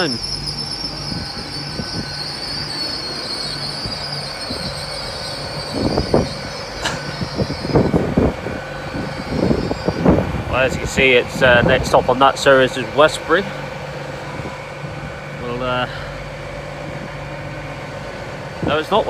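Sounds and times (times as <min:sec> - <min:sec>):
high-pitched train squeal: 0:00.0 - 0:19.0
low pulsing train hum: 0:00.0 - 0:19.0.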